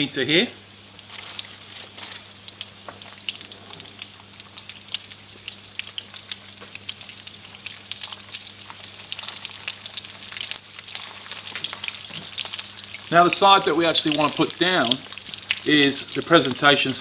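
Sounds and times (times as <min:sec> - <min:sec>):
fish sizzling in hot oil: 0:00.6 - 0:17.0.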